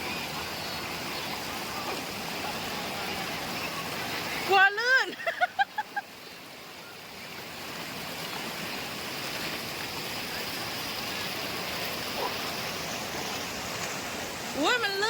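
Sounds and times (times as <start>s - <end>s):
waterfall flowing over rocks: 0.0s - 15.0s.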